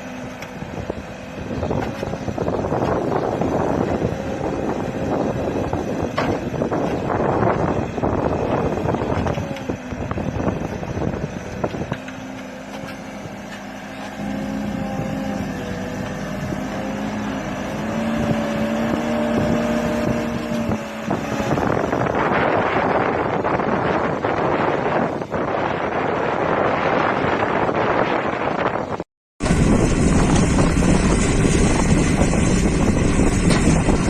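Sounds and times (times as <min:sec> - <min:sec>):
backhoe engine whine: 0:00.0 - 0:34.0
wind buffeting microphone: 0:00.0 - 0:34.0.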